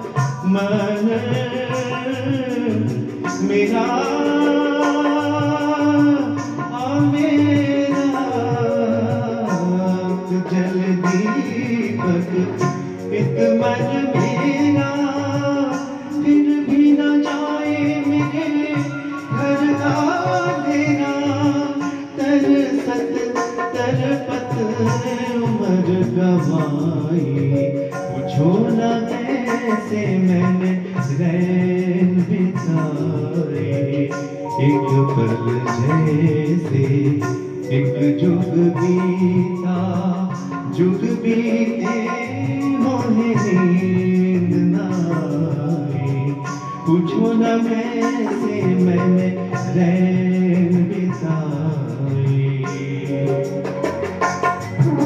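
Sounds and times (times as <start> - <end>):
keyboard melody: 0.0 - 55.0
man singing: 0.0 - 55.0
tabla: 0.0 - 55.0.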